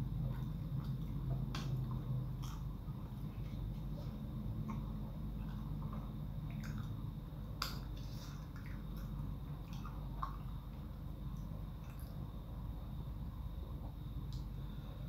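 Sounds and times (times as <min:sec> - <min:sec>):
low hum: 0:00.0 - 0:15.0
wet chewing and lip-smacking: 0:00.1 - 0:12.2.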